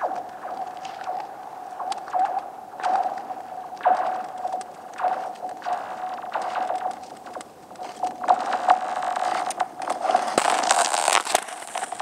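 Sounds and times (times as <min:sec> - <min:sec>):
lake ice pinging and crackling: 0:00.0 - 0:12.0
steady ice tone: 0:00.0 - 0:12.0.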